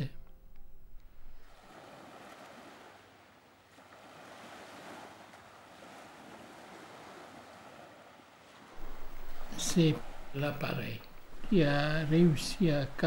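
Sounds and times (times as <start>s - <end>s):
waves washing on shore: 1.1s - 13.0s.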